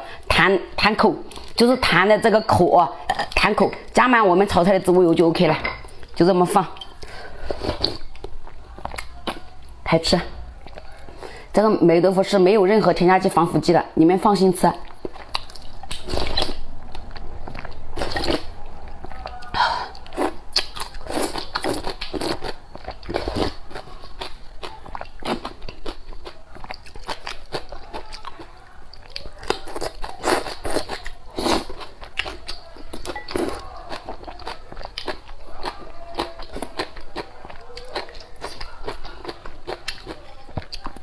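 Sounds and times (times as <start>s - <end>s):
close-miked chewing and crunching: 4.6s - 11.5s, 14.2s - 41.0s.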